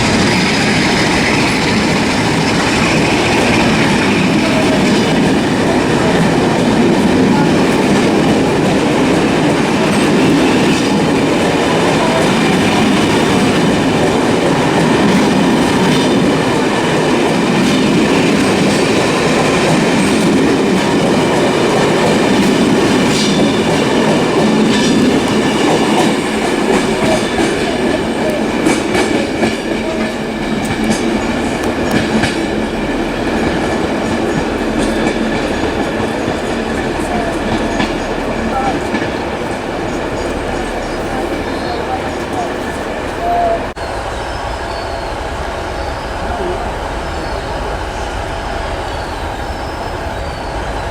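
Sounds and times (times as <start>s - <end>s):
train running on rails: 0.0s - 50.9s.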